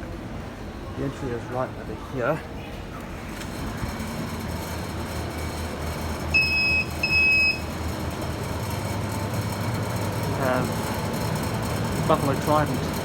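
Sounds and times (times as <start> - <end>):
refrigeration hum: 0.0 - 13.0.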